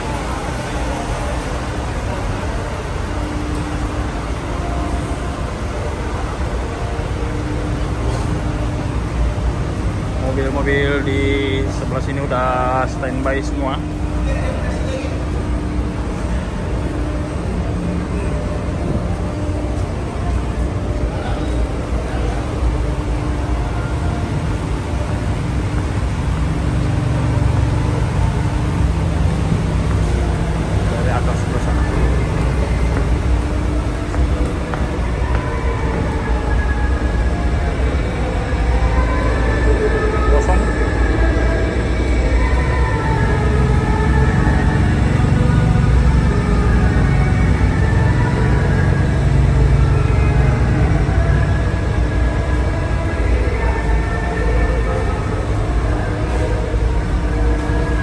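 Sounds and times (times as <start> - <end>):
faint constant hum: 0.0 - 58.0
low engine rumble: 0.0 - 58.0.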